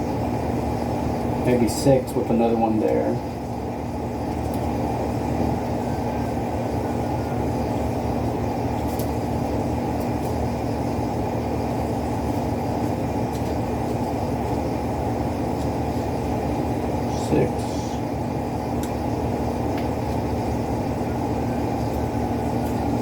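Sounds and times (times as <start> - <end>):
machinery hum and rumble: 0.0 - 23.0.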